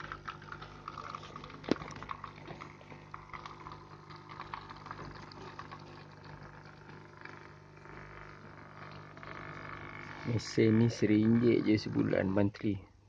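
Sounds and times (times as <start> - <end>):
coffee machine humming: 0.0 - 12.8.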